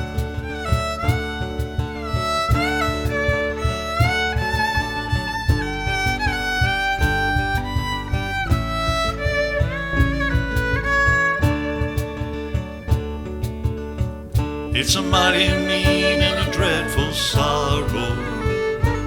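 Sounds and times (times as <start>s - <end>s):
fiddle melody: 0.0s - 19.0s
strummed acoustic guitar: 0.0s - 19.0s.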